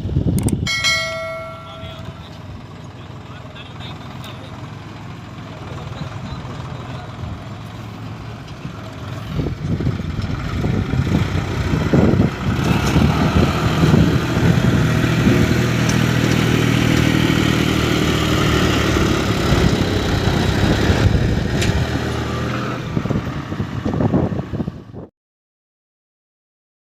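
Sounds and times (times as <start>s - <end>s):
diesel engines running: 0.0s - 25.1s.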